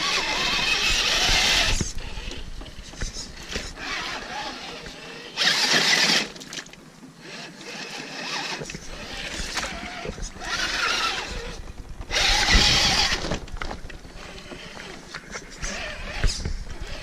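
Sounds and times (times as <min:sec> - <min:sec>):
electric motor and drivetrain whining: 0:00.0 - 0:06.4, 0:07.1 - 0:17.0.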